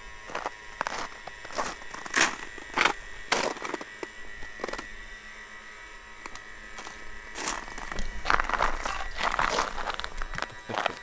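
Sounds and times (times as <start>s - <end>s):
model jet turbines whining: 0.0s - 11.0s.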